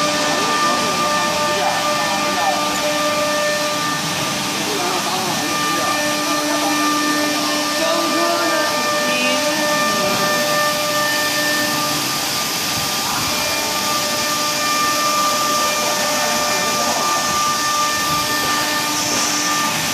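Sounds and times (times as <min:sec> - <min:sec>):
router machine rushing and whining: 0:00.0 - 0:19.9.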